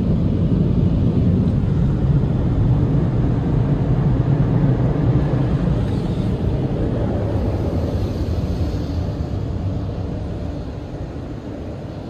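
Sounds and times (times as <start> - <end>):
car wash dryer blowers: 0.0 - 12.0.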